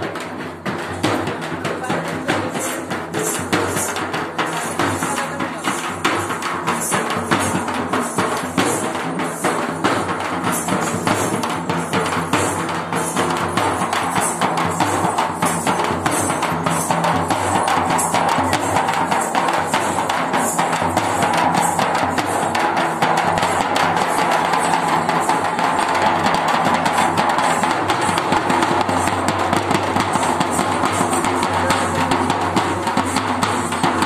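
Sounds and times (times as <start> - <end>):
frame drum beaten fast: 0.0 - 34.0.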